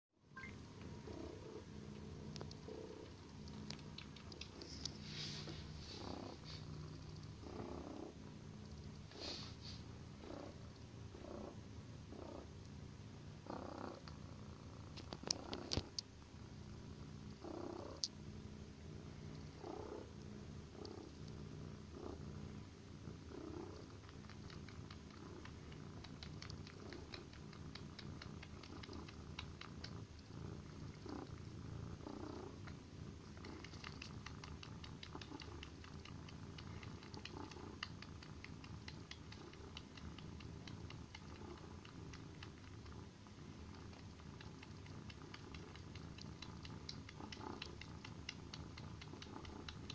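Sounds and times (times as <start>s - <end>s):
faint clicking sucking sounds: 0.4s - 49.9s
kitten purring: 0.4s - 49.9s.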